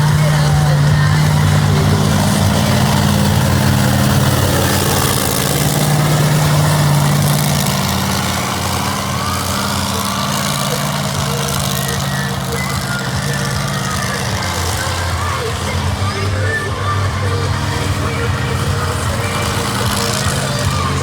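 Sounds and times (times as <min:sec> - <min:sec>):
monster truck engine droning: 0:00.0 - 0:21.0.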